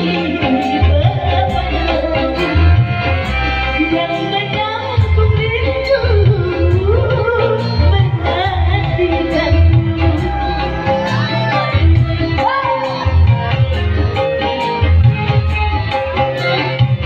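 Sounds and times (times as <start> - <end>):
woman singing: 0.0 - 14.8
live band with drums and keyboards: 0.0 - 17.0.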